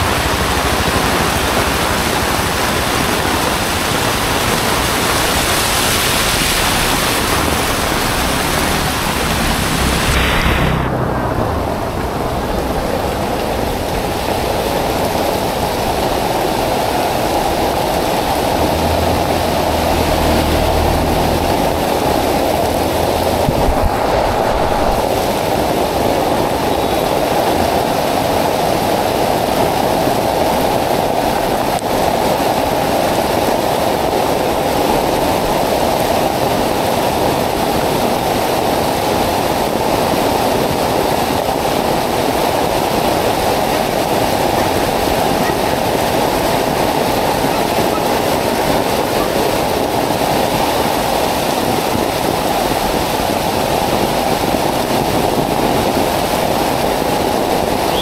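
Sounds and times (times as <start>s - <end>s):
heavy rain pouring on street: 0.0s - 58.0s.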